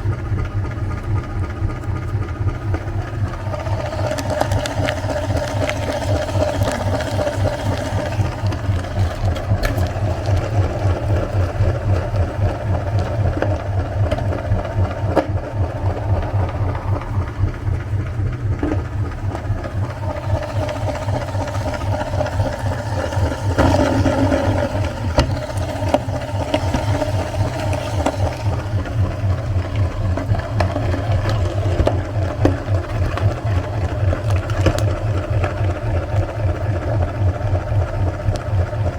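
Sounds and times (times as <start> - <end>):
electric meat grinder running: 2.9 - 17.7, 19.1 - 38.9.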